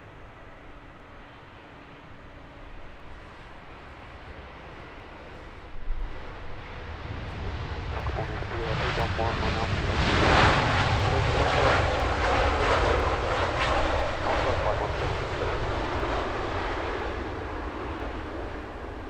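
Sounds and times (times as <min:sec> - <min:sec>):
jet airliner engines passing: 0:00.0 - 0:19.0.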